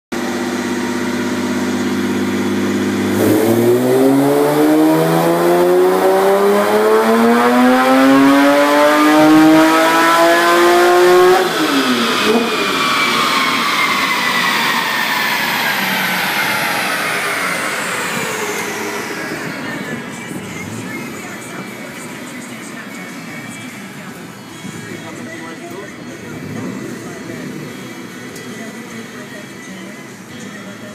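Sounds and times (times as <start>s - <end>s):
car engine revving on a dyno: 0.1s - 29.6s
high whine winding down: 0.2s - 30.3s.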